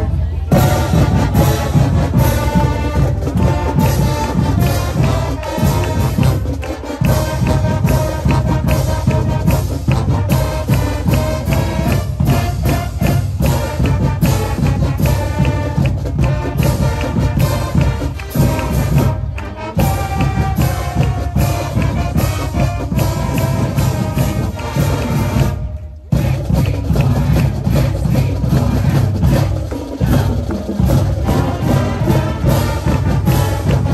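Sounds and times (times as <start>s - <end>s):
brass band melody: 0.0s - 33.9s
drumline beat: 0.0s - 33.9s.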